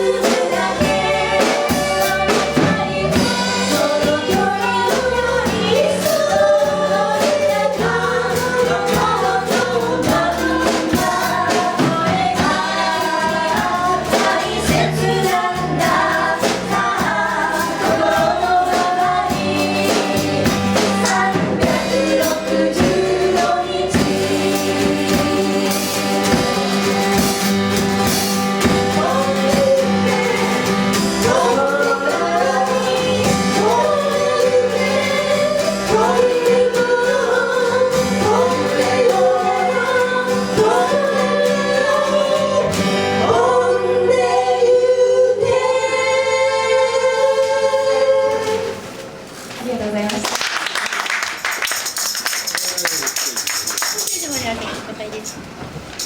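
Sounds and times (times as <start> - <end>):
live pop band playing: 0.0 - 46.0
voices singing together: 0.0 - 49.3.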